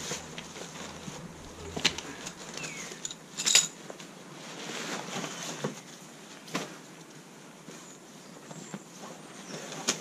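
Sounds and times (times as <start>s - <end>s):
nylon fabric rustling: 0.0s - 10.0s.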